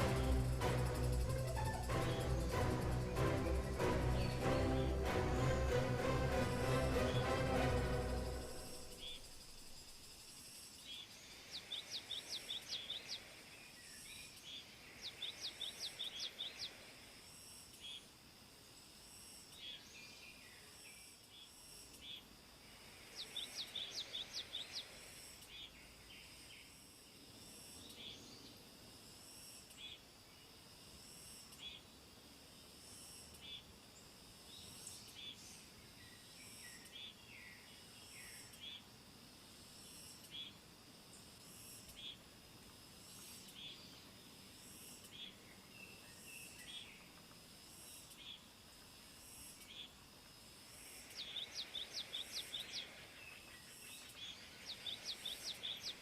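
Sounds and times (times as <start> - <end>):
songbird singing: 0.0 - 16.9, 17.6 - 18.9, 19.5 - 22.3, 22.9 - 26.8, 27.8 - 28.7, 29.7 - 30.6, 31.4 - 32.0, 33.2 - 50.1, 50.8 - 56.0
insect chorus: 0.0 - 56.0.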